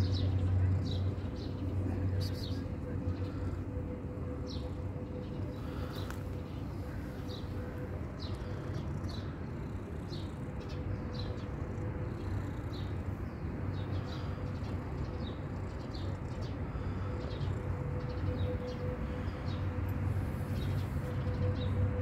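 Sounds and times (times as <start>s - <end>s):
faint hum: 0.0s - 22.0s
low background rumble: 0.0s - 22.0s.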